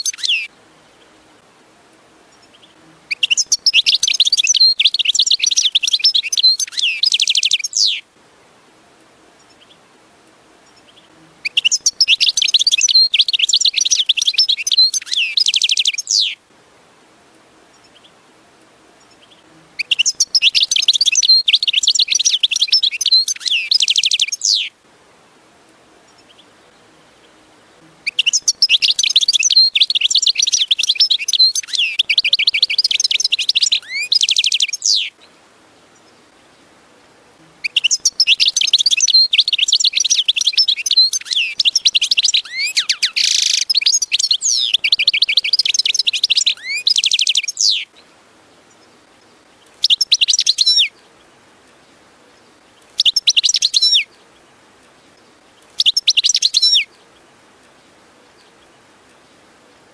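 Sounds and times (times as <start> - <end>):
goldfinch singing: 0.0 - 1.2, 2.3 - 8.1, 10.6 - 16.4, 17.7 - 18.2, 19.0 - 24.8, 26.1 - 36.7, 37.4 - 59.9.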